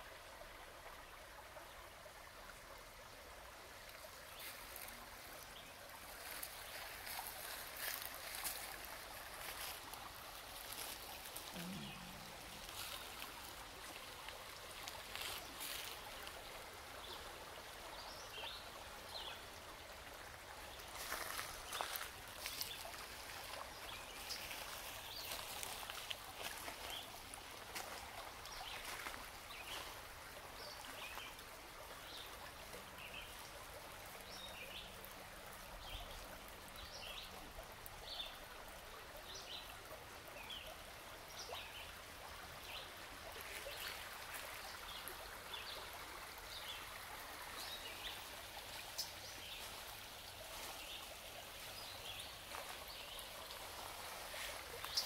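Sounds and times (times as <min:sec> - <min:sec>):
creek water over gravel: 0:00.0 - 0:55.0.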